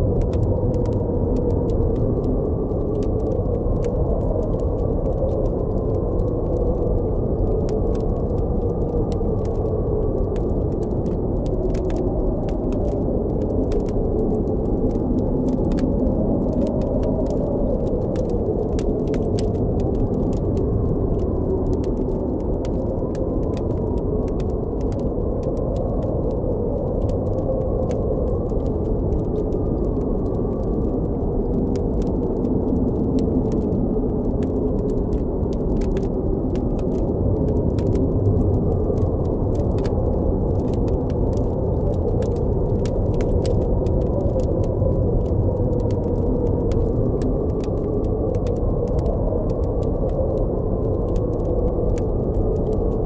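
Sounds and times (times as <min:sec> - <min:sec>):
blizzard wind howling: 0:00.0 - 0:53.0
campfire crackling: 0:00.0 - 0:53.0.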